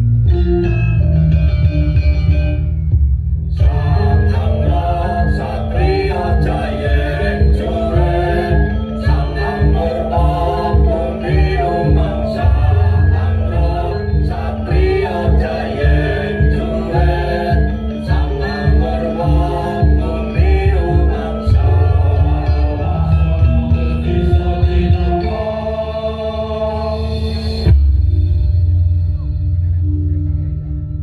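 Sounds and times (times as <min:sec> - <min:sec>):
loud music with singing: 0:03.5 - 0:30.9.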